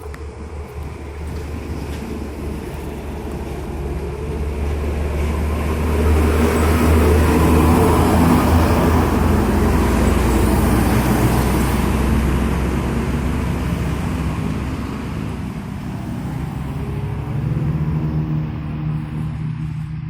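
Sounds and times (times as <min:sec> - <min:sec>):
heavy vehicle engine drone: 0:00.0 - 0:20.0.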